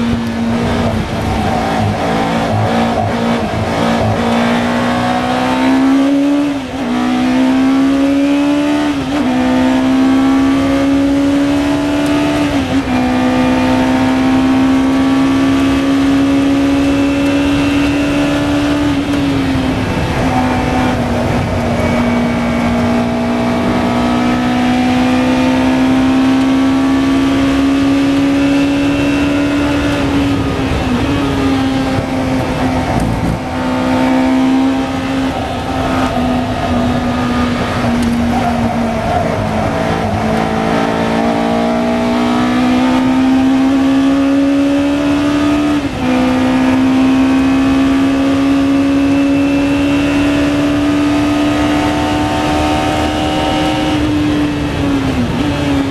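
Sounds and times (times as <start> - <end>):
racing car engine with gear changes: 0.0 - 55.9
wind noise: 0.0 - 55.9.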